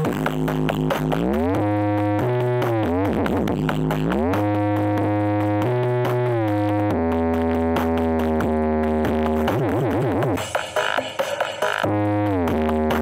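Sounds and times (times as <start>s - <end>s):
deep bass: 0.0s - 10.4s, 11.9s - 13.0s
loud electronic music: 0.0s - 13.0s.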